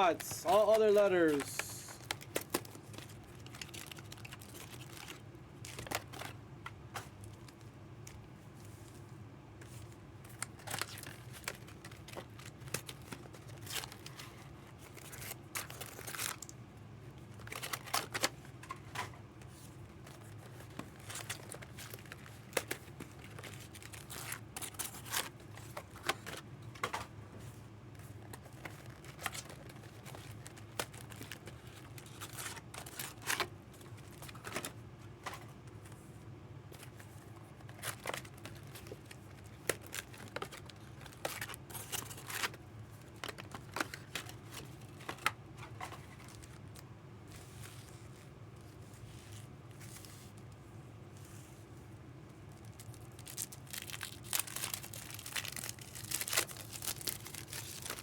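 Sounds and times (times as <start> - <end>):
packaging crinkling and rustling: 0.0 - 9.0, 9.6 - 51.5, 52.4 - 58.0.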